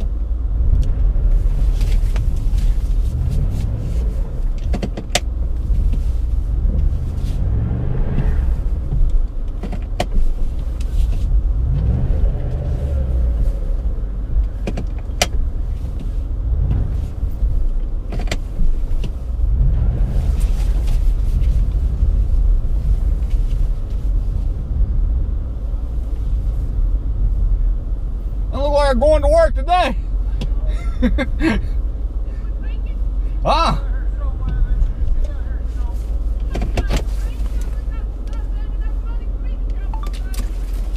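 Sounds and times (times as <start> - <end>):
car engine rumble: 0.0 - 40.9
road noise: 0.0 - 40.9.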